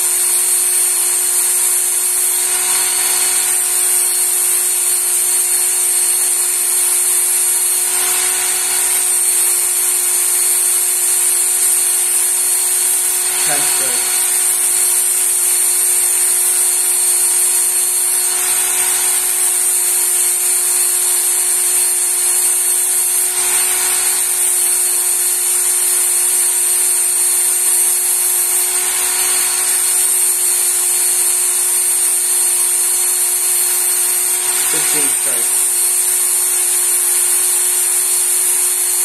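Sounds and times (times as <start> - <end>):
belt sharpener motor whine: 0.0 - 39.0
knife grinding on abrasive belt: 0.0 - 39.0.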